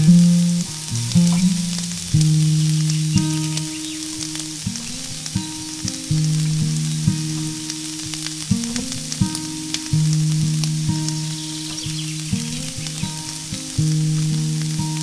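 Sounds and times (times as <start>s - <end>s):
fish frying in hot oil: 0.0s - 15.0s
instrumental music: 0.0s - 15.0s.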